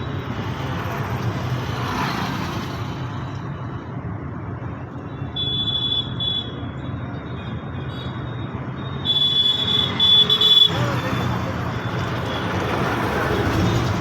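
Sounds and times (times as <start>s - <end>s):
passing vehicle engines: 0.0s - 4.9s, 6.9s - 14.0s.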